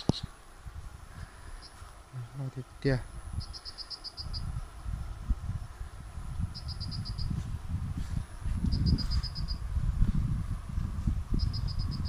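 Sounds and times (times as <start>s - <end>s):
insect chirping trills: 0.0s - 7.6s, 8.2s - 9.9s, 11.3s - 12.0s
low rumble on microphone: 0.0s - 12.0s.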